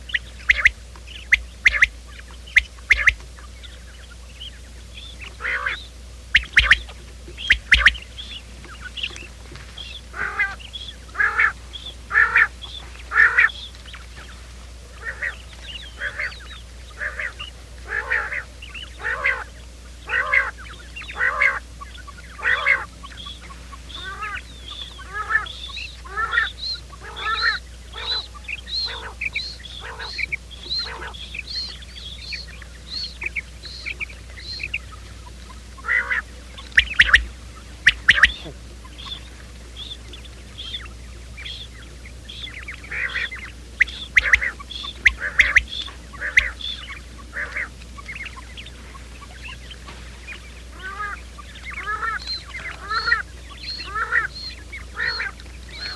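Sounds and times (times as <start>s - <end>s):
quail calling: 0.0s - 55.9s
steady low hum: 0.0s - 55.9s.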